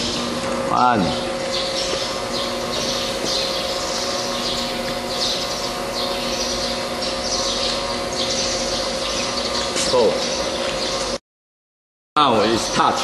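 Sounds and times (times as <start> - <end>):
machine electric hum with tones: 0.0 - 11.2, 12.2 - 13.0.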